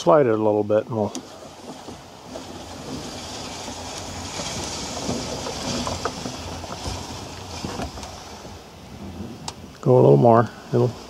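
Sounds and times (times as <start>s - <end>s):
roof rolling on wheels: 0.9s - 11.0s.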